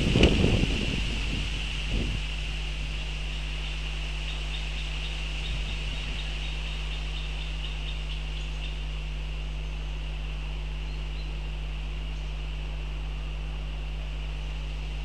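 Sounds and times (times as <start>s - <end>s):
low electrical hum and hiss: 0.0s - 15.0s.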